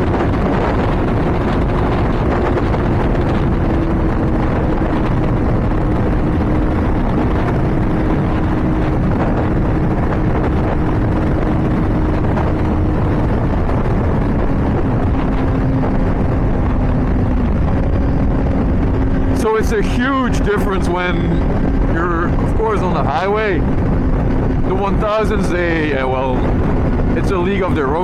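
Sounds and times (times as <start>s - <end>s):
motorcycle engine at high speed: 0.0s - 28.0s
wind rush on microphone: 0.0s - 28.0s.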